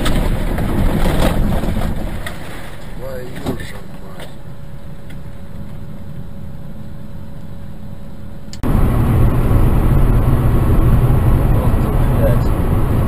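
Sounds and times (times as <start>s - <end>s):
car cabin driving rumble: 0.0s - 13.0s
road and engine noise: 0.0s - 13.0s.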